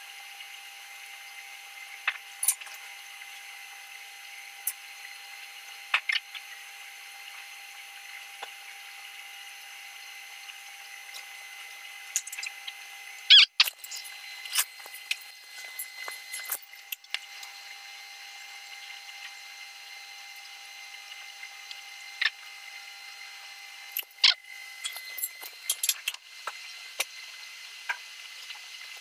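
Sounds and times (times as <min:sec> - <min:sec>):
faint constant whine: 0:00.0 - 0:29.0.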